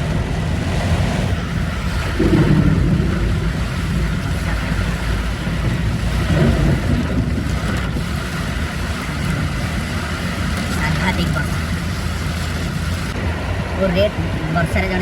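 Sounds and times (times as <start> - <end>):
heavy rain: 0.0 - 15.0
vehicle road noise: 0.0 - 15.0
wind buffeting microphone: 0.0 - 15.0.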